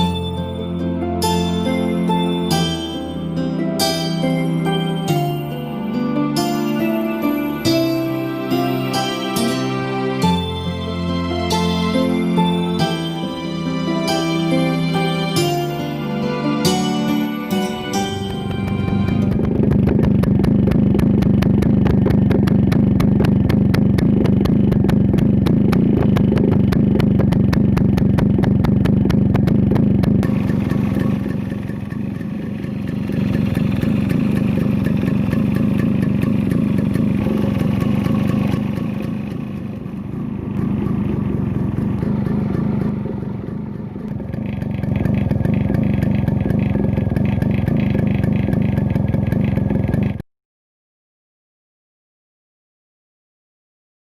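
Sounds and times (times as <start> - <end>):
two-stroke motorcycle engine: 0.0 - 50.2.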